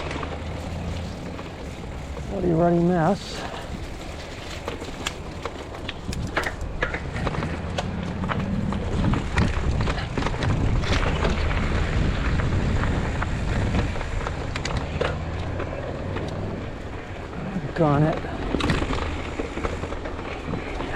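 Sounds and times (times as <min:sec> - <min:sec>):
bike clicks and rattles: 0:00.0 - 0:20.9
bike tyres rumbling on rocks: 0:00.0 - 0:20.9
wind on microphone: 0:00.0 - 0:20.9.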